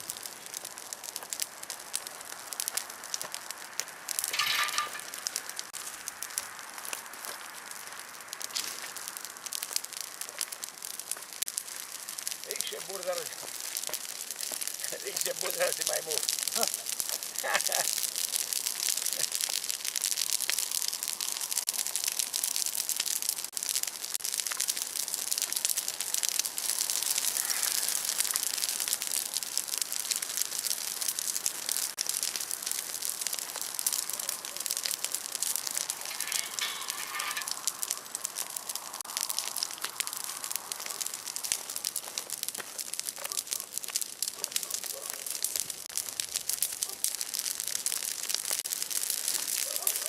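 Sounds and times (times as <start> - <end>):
bonfire crackling and popping: 0.0 - 50.0
fire hissing: 0.0 - 50.0.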